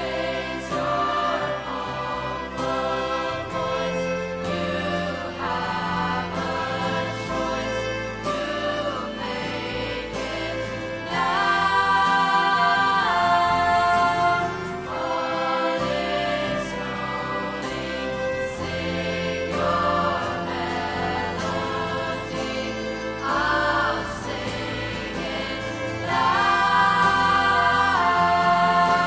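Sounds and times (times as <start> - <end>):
choir singing: 0.0 - 29.0
string ensemble playing: 0.0 - 29.0.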